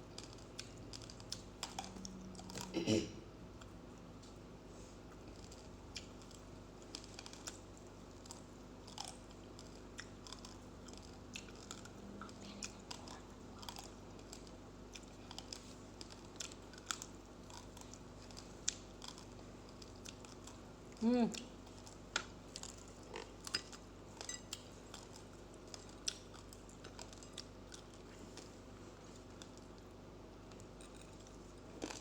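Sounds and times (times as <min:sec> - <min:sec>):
person chewing crunchy rice: 0:00.0 - 0:02.8, 0:03.5 - 0:32.0.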